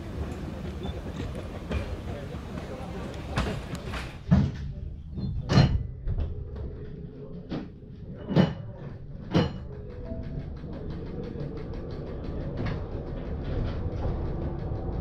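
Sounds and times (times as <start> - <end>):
electric train hum: 0.0 - 4.3, 6.1 - 15.0
train loud clanks: 0.0 - 6.3, 7.5 - 15.0.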